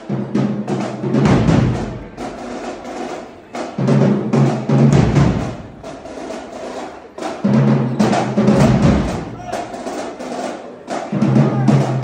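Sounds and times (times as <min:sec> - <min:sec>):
drums beating: 0:00.0 - 0:12.0
marching band playing: 0:00.0 - 0:12.0.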